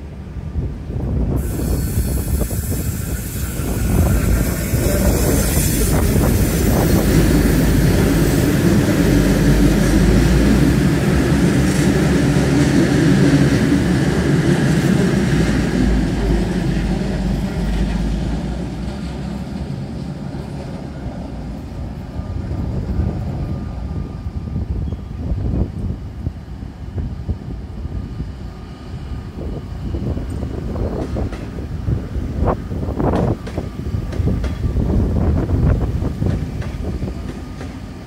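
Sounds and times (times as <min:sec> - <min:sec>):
electric train rumbling past: 0:00.0 - 0:38.0.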